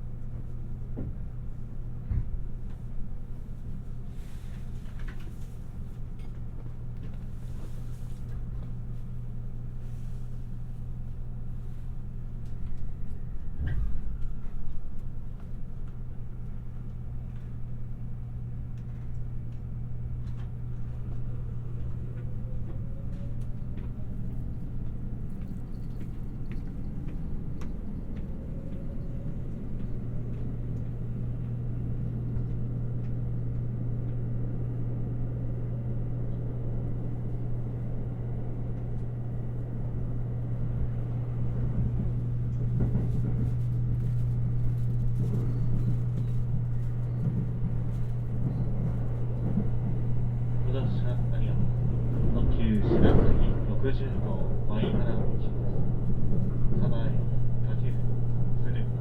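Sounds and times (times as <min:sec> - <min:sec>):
train cabin hum and rumble: 0:00.0 - 0:59.0.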